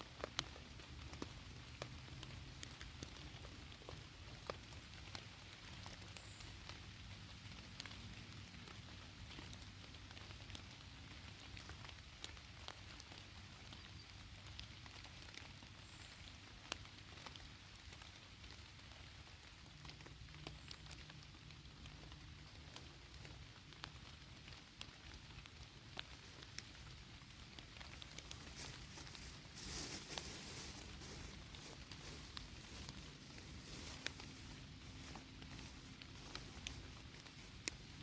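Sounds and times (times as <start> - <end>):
light rain falling: 0.0 - 38.0.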